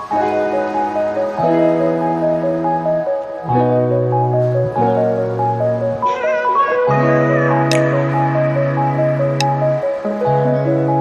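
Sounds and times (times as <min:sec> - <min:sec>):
mellow instrumental music: 0:00.0 - 0:11.0.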